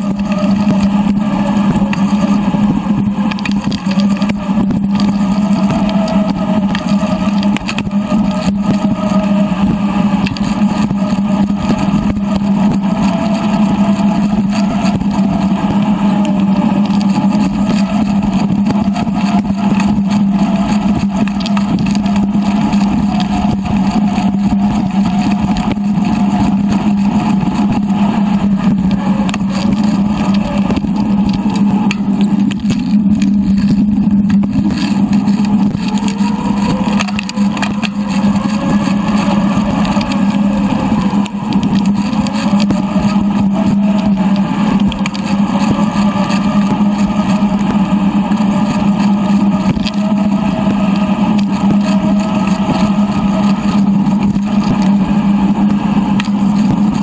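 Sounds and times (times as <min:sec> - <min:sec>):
sped-up motor-like drone: 0:00.0 - 0:57.0
wavering higher tones: 0:00.0 - 0:57.0.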